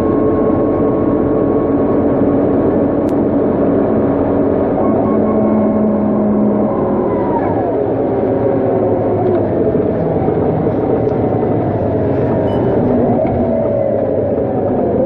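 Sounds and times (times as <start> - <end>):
bus diesel engine under way: 0.0 - 15.0.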